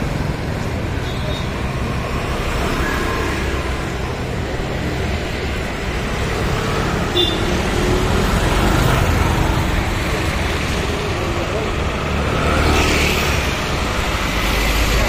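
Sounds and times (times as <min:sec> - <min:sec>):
vehicle engines rumbling: 0:00.0 - 0:15.0.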